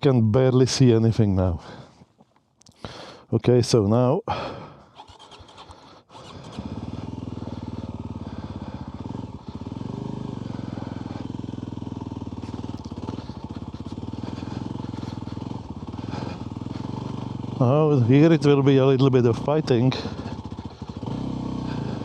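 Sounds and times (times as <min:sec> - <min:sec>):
off-road motorbike engine: 0:00.0 - 0:22.0.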